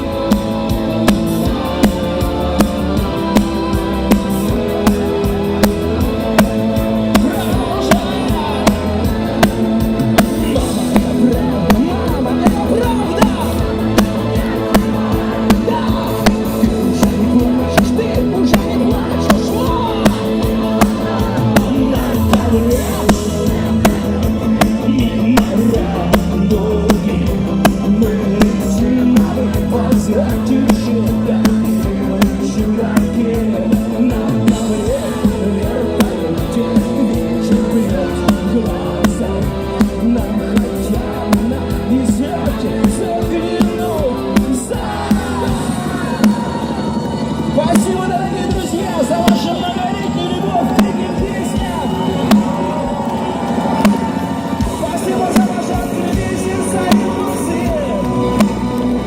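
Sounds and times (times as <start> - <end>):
drums beating: 0.0 - 59.0
rock band playing live: 0.0 - 59.0.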